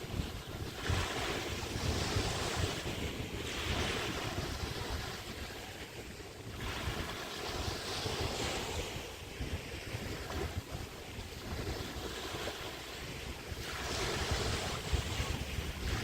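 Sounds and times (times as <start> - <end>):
small waves breaking on beach: 0.0 - 16.0
wind rumbling on microphone: 0.0 - 16.0.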